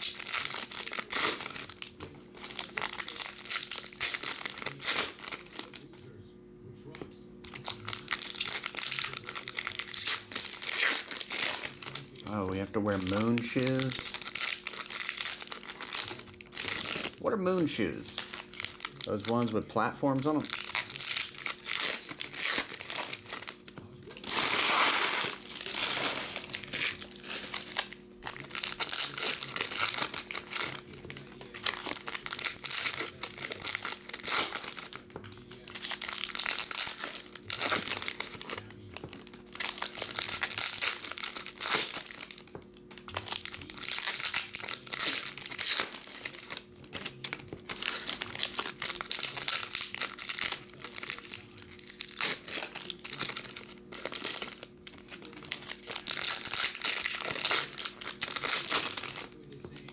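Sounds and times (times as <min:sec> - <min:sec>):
foil wrappers tearing and crinkling: 0:00.0 - 0:06.2, 0:07.4 - 0:59.9.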